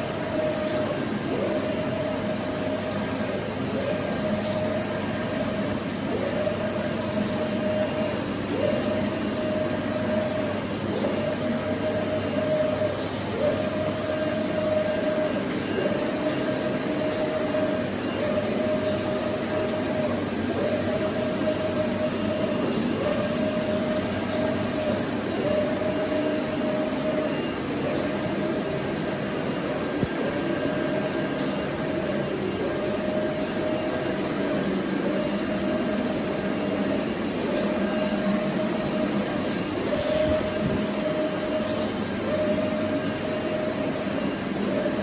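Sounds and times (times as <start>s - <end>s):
print carriage whine: 0.0s - 45.0s
printer mechanical hum: 0.0s - 45.0s.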